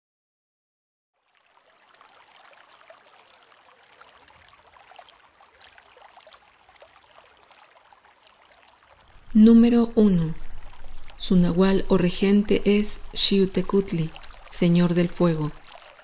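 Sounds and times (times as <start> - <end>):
water drops pattering: 1.4 - 16.0.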